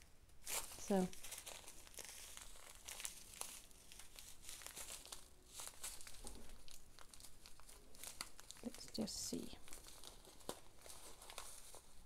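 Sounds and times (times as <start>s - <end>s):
crinkling plastic bags: 0.4s - 12.0s.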